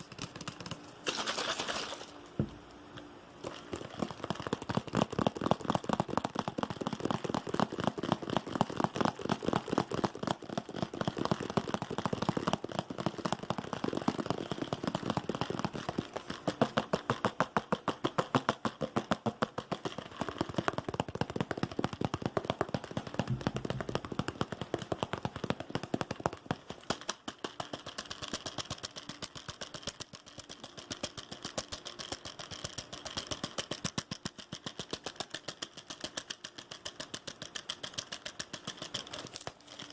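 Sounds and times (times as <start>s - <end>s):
rapid tapping on hard objects: 0.0s - 2.6s, 3.4s - 39.9s.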